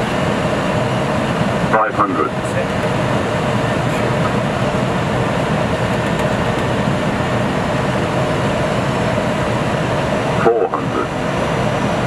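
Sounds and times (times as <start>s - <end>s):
faint constant engine tone: 0.0s - 12.0s.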